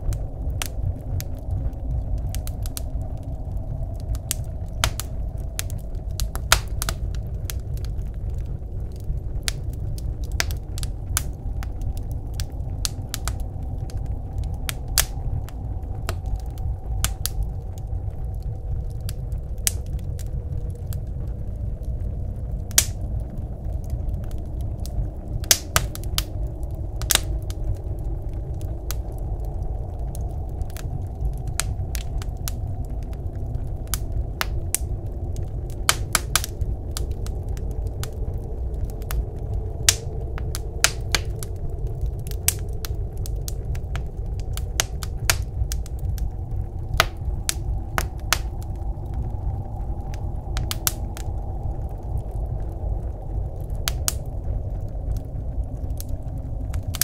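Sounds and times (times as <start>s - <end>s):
blizzard wind rumble: 0.0s - 57.0s
wood fire crackling: 0.0s - 57.0s.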